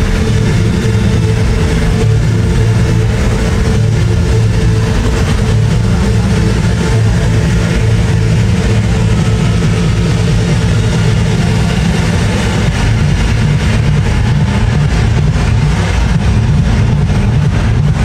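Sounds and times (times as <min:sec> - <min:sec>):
trance dance music with booming bass: 0:00.0 - 0:18.0.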